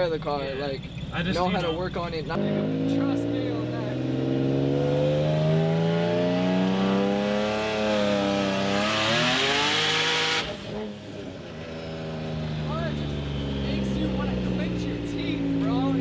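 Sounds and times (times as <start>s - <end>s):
car engine accelerating hard: 1.0s - 16.0s.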